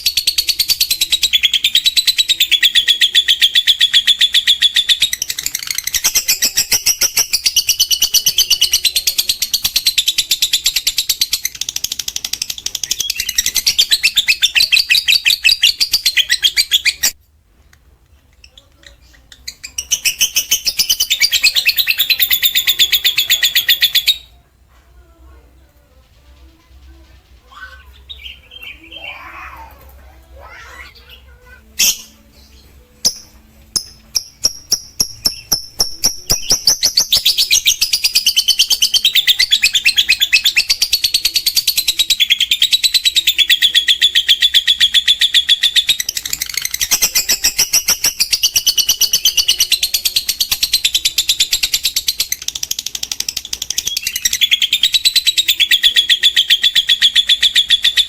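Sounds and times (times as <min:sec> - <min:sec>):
lovebird chattering trill: 0:00.0 - 0:17.2, 0:18.4 - 0:24.4, 0:26.3 - 0:58.0.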